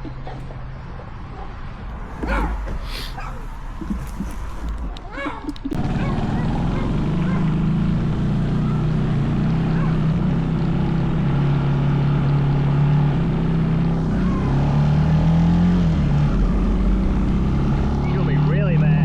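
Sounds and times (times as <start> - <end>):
small bike engine running: 2.2 - 19.0.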